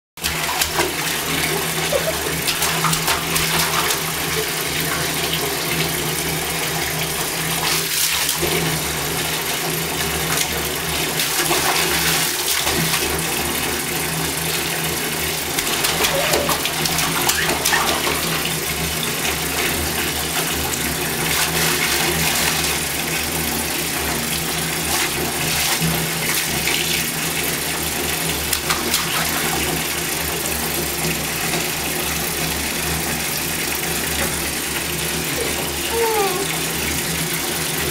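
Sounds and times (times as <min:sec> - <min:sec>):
tap water pouring into bathtub: 0:00.2 - 0:37.9.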